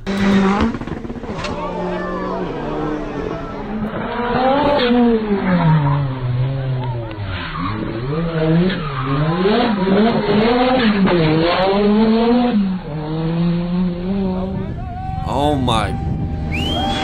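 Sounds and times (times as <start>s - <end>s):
rally car engine revving: 0.0s - 14.8s.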